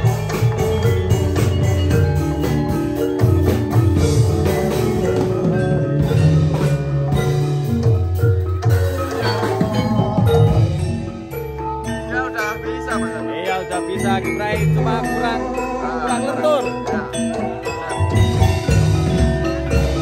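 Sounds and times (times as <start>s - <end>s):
drum beat: 0.0s - 20.0s
metal mallet instruments ringing: 0.0s - 20.0s.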